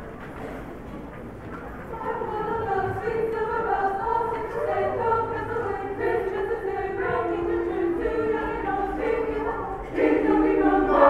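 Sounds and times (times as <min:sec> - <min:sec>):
choir singing in harmony: 0:01.9 - 0:11.0.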